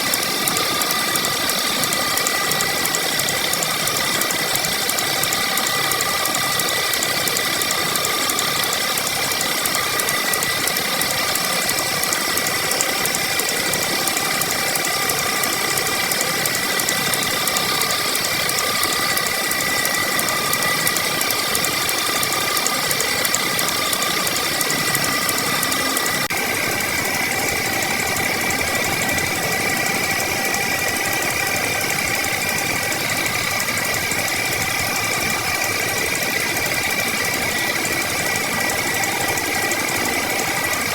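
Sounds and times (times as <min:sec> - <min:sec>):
small motorised tool rattling: 0:00.0 - 0:40.9.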